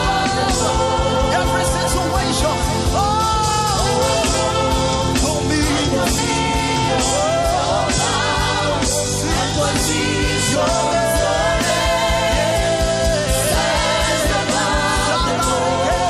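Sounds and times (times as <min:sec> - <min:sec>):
band with steady beat: 0:00.0 - 0:16.0
people singing: 0:00.0 - 0:16.0.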